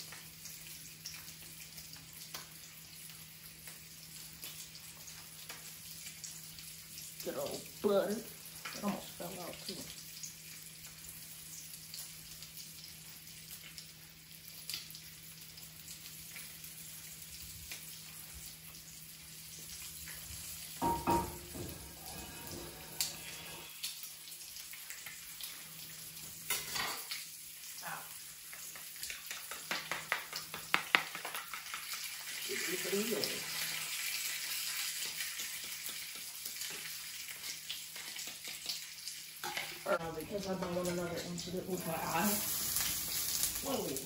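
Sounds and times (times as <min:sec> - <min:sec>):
butter sizzling in a frying pan: 0:00.0 - 0:44.0.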